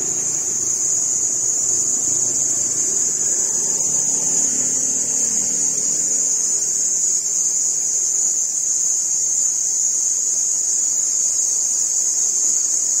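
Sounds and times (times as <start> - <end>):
shrill insect chorus: 0.0 - 13.0.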